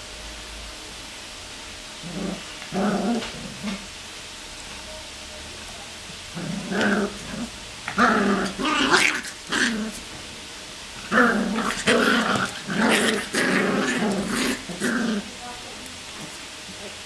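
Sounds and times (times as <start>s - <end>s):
puppies growling in play: 1.7s - 4.4s, 6.0s - 17.0s.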